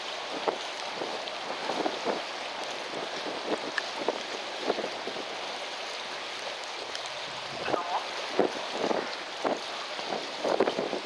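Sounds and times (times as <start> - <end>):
strong wind buffeting microphone: 0.1 - 11.0.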